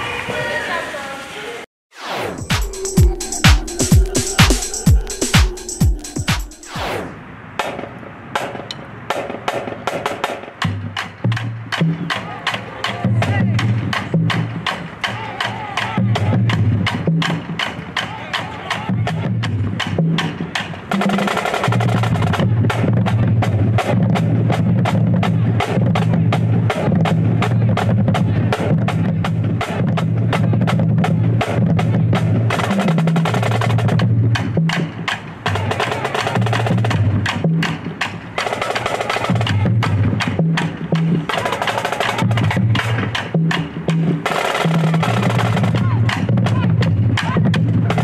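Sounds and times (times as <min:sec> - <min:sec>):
marching drumline playing: 0:02.3 - 0:07.0, 0:07.6 - 0:48.0.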